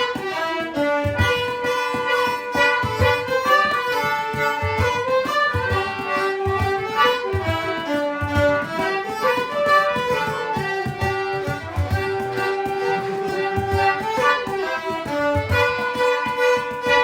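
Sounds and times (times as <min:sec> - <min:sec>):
fiddle melody: 0:00.0 - 0:17.0.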